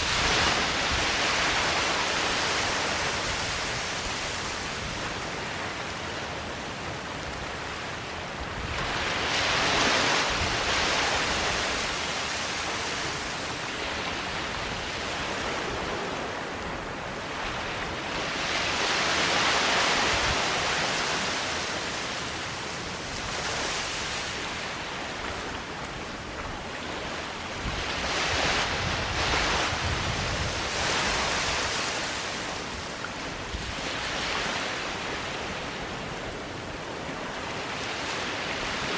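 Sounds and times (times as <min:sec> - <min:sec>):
waves washing onto sand: 0:00.0 - 0:38.9
wind rumble on microphone: 0:00.0 - 0:38.9.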